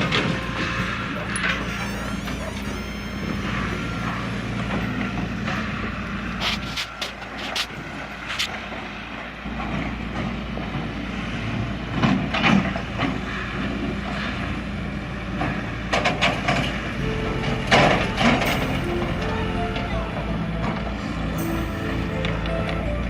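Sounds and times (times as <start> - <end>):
heavy vehicle engine humming: 0.0 - 23.0.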